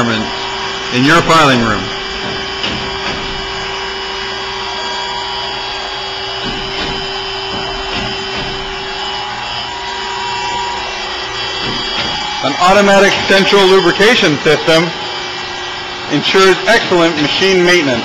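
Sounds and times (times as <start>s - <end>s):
saw grinder machine running: 0.0s - 18.0s.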